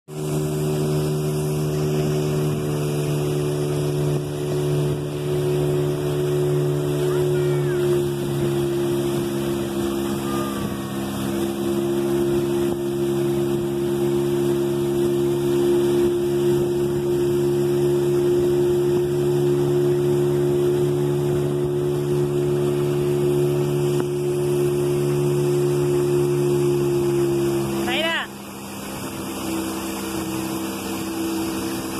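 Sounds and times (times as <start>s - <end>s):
outboard motor droning: 0.0s - 31.9s
water rushing past hull: 0.1s - 31.9s.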